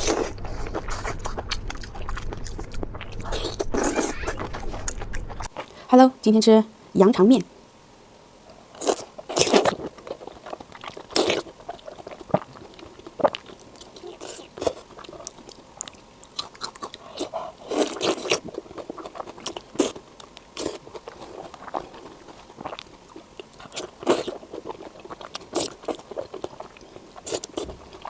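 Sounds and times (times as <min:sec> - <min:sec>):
crunchy wet chewing: 0:00.0 - 0:05.8, 0:08.7 - 0:28.0.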